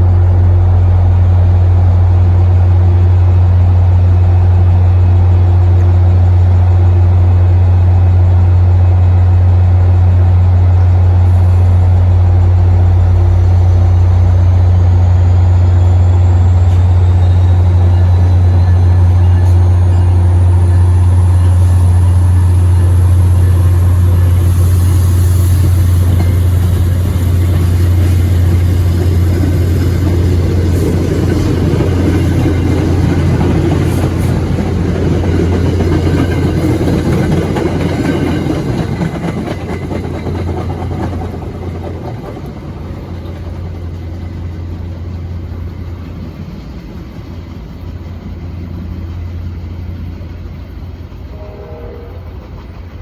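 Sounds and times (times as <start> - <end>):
diesel locomotive engine drone: 0.0 - 53.0
rumbling rail noise: 0.0 - 53.0.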